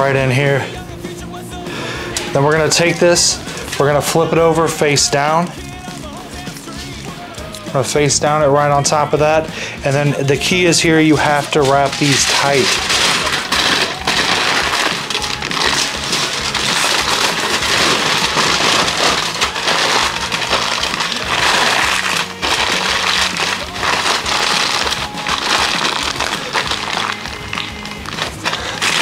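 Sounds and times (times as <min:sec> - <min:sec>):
background music: 0:00.0 - 0:29.0
aluminium foil crinkling: 0:02.2 - 0:07.6, 0:09.9 - 0:29.0.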